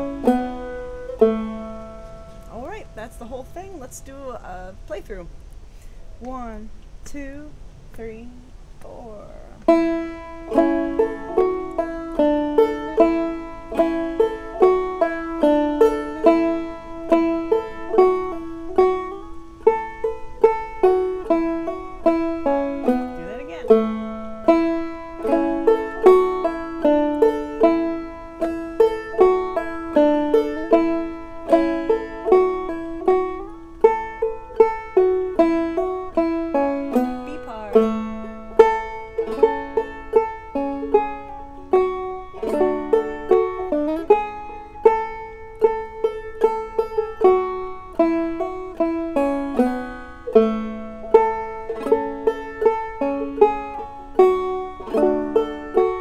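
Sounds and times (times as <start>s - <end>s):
banjo playing an old-time tune: 0.0s - 5.2s, 9.6s - 56.0s.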